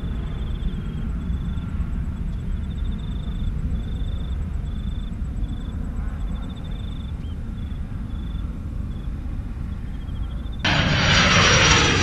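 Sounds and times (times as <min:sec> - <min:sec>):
distant jet engine rumble: 0:00.0 - 0:12.0.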